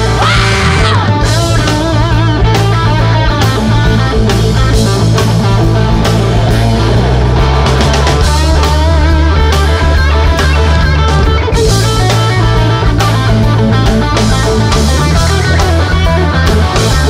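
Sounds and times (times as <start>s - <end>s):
bass: 0.0s - 17.0s
drum hits: 0.0s - 17.0s
electric guitar lead lines: 0.0s - 17.0s.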